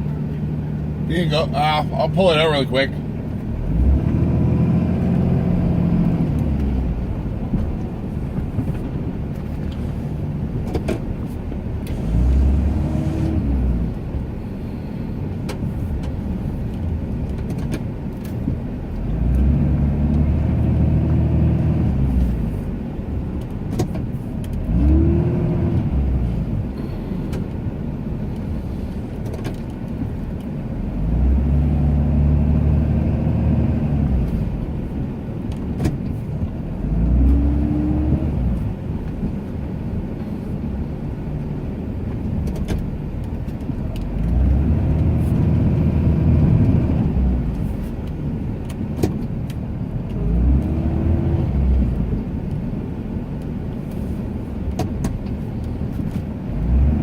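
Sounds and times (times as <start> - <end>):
truck engine surging under load: 0.0 - 57.0.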